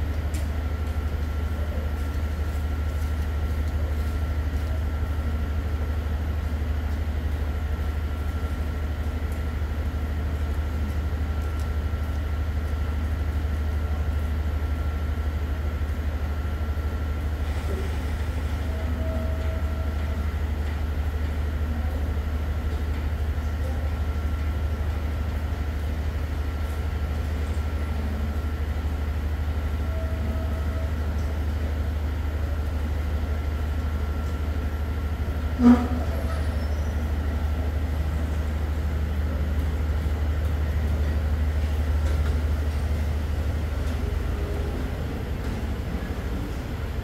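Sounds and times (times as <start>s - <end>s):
diesel train idling drone: 0.0s - 47.0s.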